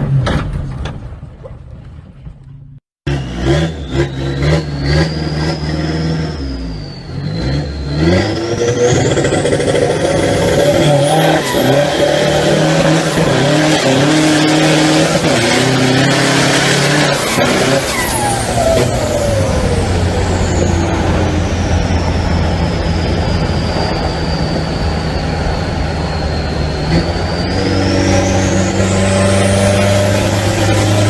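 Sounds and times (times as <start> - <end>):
off-road vehicle engine revving: 3.0 - 31.0
high whine: 3.1 - 31.0.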